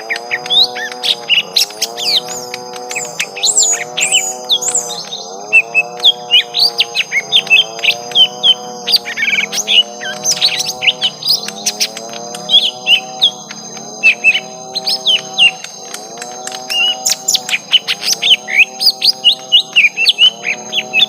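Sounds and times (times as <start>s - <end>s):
birds chirping and whistling: 0.0s - 21.0s.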